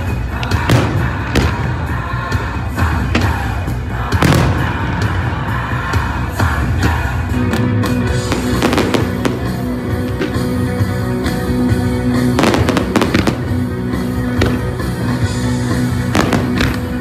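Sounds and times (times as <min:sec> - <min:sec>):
fireworks bursting and crackling: 0:00.0 - 0:10.7, 0:12.1 - 0:17.0
loud music: 0:00.0 - 0:17.0.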